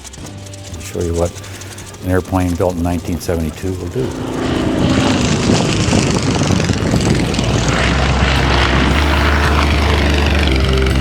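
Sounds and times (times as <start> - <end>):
propeller plane engine running: 0.0 - 11.0.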